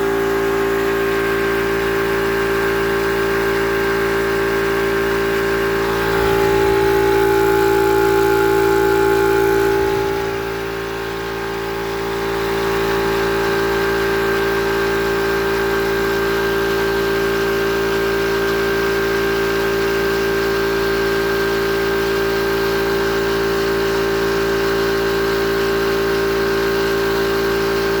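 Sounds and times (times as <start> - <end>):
air compressor humming and whining: 0.0 - 28.0.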